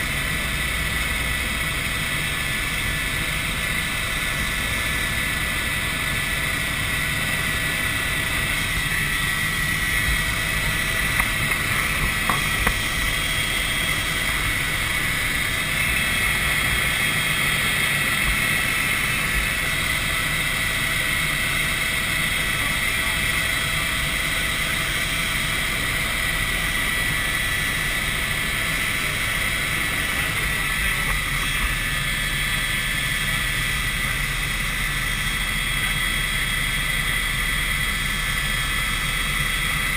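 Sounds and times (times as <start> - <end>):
helicopter rotor and engine: 0.0 - 39.9
high whine: 0.0 - 39.9.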